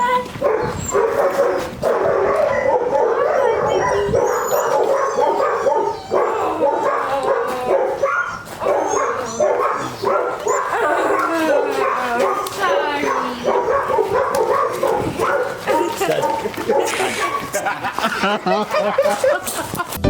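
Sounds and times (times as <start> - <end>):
dogs whining: 0.0 - 19.6
dogs barking and yipping: 0.0 - 20.0.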